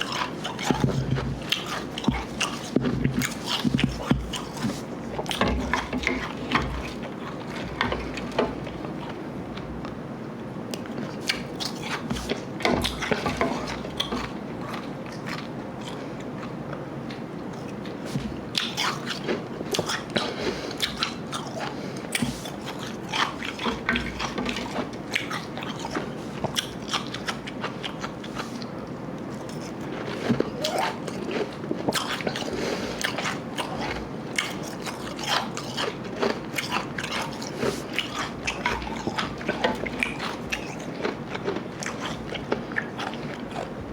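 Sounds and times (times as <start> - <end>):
chewing and crunching ice: 0.0 - 9.2, 10.8 - 16.6, 17.5 - 43.9.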